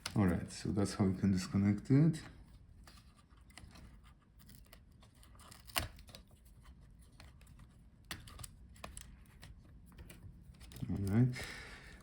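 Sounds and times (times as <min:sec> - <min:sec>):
light rustling of laptop parts: 0:00.0 - 0:00.5, 0:01.9 - 0:12.0.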